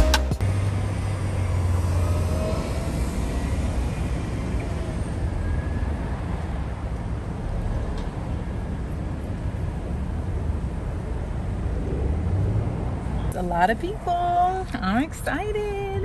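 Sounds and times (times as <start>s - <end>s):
vehicle traffic rumble: 0.0s - 16.0s.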